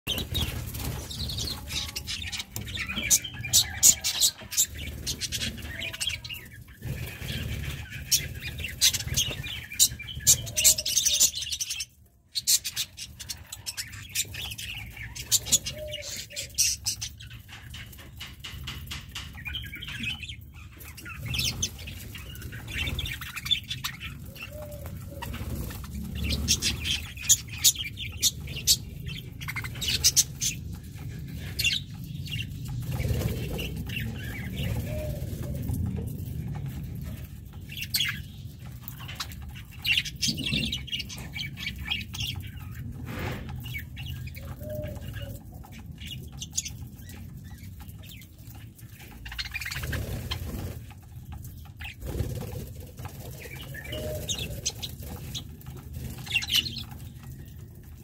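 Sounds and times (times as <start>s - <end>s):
wings fluttering: 0.1s - 11.3s, 12.8s - 58.0s
birds pecking at seed: 0.1s - 58.0s.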